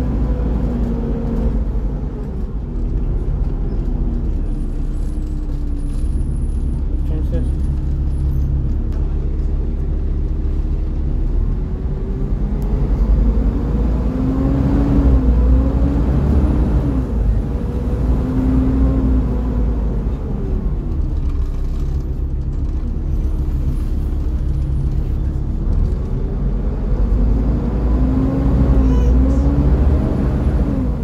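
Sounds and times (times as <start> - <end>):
bus diesel engine pulling under load: 0.0 - 31.0.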